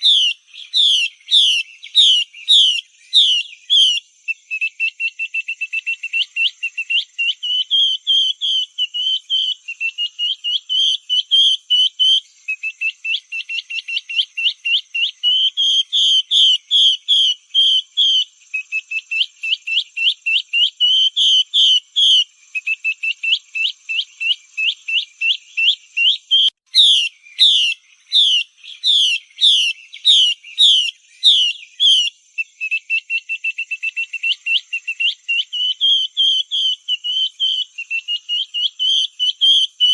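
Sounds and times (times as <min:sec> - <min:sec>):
bird whistled calls: 0:00.0 - 0:39.9.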